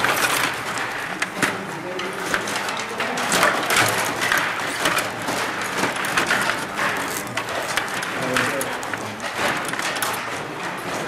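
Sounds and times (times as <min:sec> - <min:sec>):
table hockey clicking and clacking: 0:00.0 - 0:11.0.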